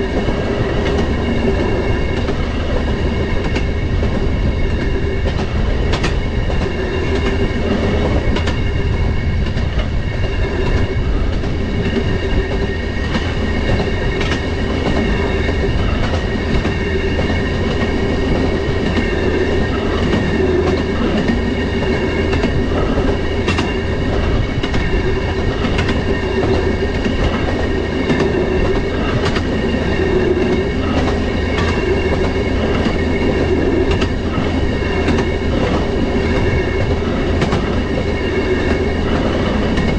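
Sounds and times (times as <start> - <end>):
railroad motorcar rolling rumble: 0.0 - 39.9
wheels clicking on rails: 0.0 - 39.9.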